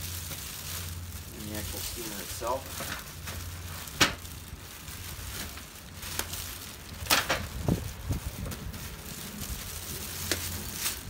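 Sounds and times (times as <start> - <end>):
cardboard and plastic packing handled: 0.0 - 11.0.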